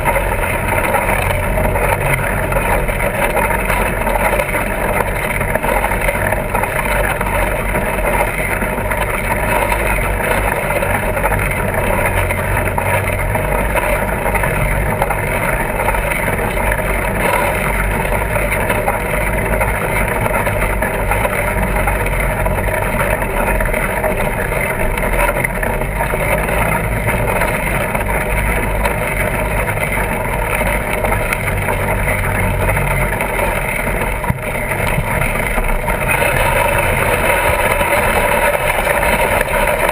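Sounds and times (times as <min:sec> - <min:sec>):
bike tyres rolling: 0:00.0 - 0:39.9.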